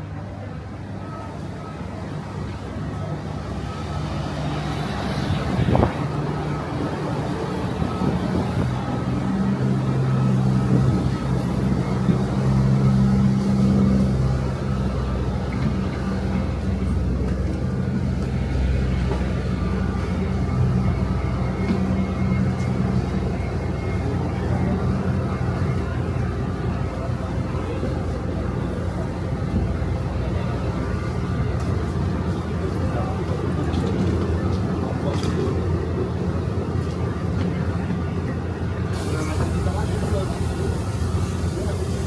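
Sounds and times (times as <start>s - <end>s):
bus engine droning: 0.0s - 42.0s.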